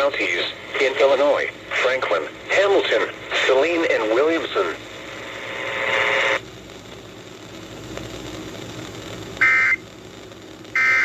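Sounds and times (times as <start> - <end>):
noisy burst: 0.0 - 11.0
radio hiss: 0.0 - 11.0.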